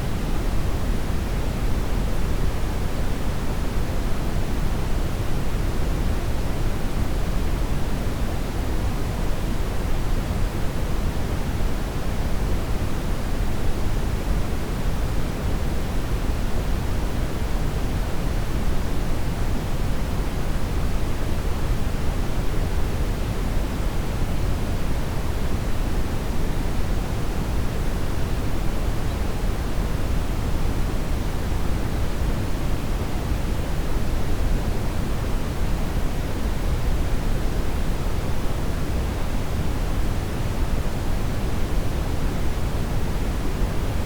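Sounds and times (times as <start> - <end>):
brown noise hiss: 0.0 - 44.0.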